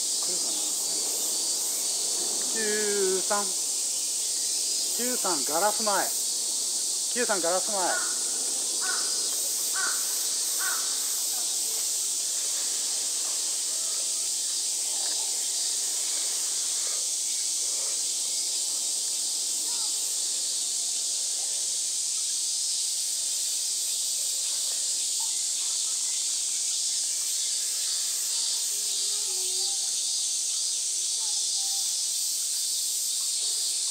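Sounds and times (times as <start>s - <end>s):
cicadas droning: 0.0s - 33.9s.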